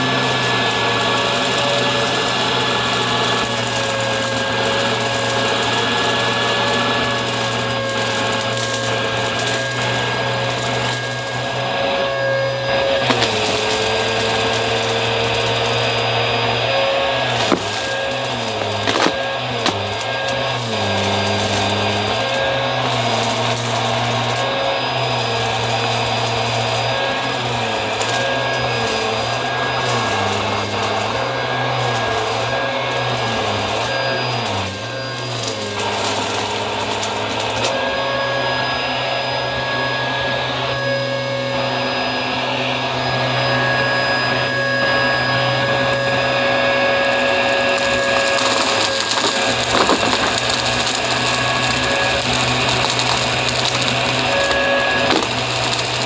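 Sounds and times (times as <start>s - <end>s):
upright vacuum cleaner motor: 0.0s - 56.0s.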